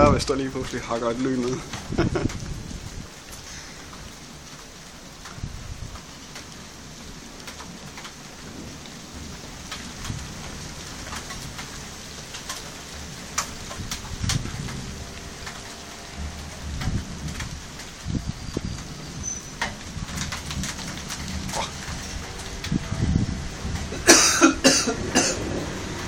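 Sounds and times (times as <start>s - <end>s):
low thunder rumbles: 0.0s - 26.0s
raindrops ticking close by: 0.0s - 26.0s
steady rain falling: 0.0s - 26.0s.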